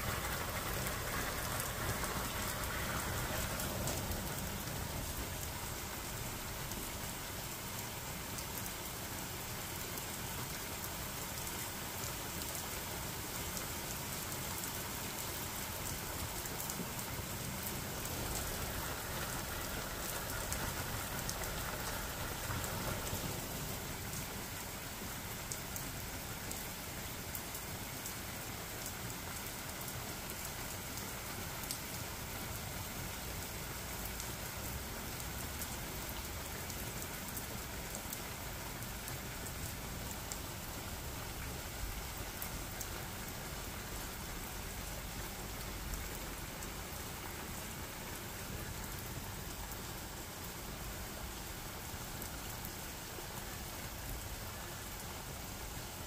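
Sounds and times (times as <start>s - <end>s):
rain-like hiss: 0.0s - 56.0s.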